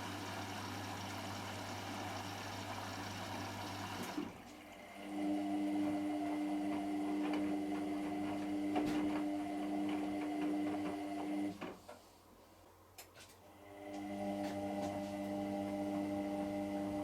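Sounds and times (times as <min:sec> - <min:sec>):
washing machine motor hum: 0:00.0 - 0:11.8, 0:13.6 - 0:17.0.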